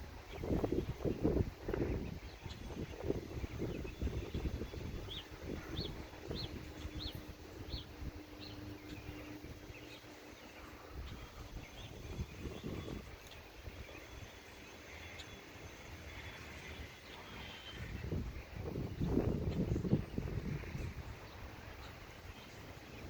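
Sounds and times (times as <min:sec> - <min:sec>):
low rumbling background noise: 0:00.0 - 0:23.0
bird chirping: 0:00.2 - 0:23.0.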